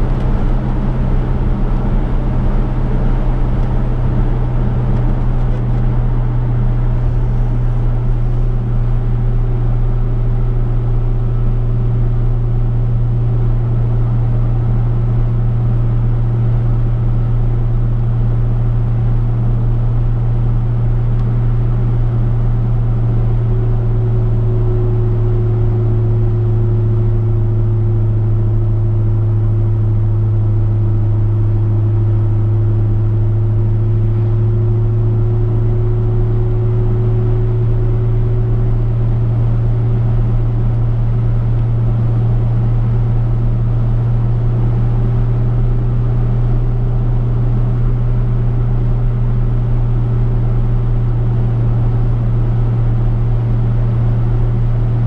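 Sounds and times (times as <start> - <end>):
car engine and road noise drone: 0.0 - 55.0.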